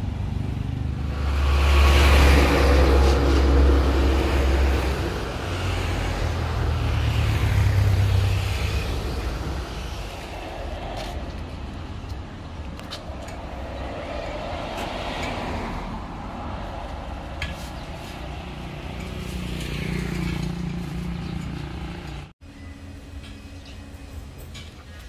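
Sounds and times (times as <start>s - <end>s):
road traffic engine rumble: 0.0s - 25.0s
vehicles passing close by: 0.0s - 25.0s.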